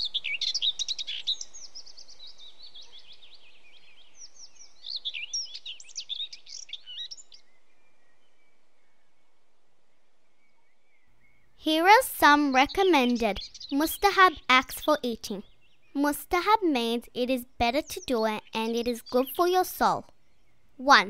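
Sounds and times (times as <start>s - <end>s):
birds chirping: 0.0s - 9.5s, 10.2s - 21.0s.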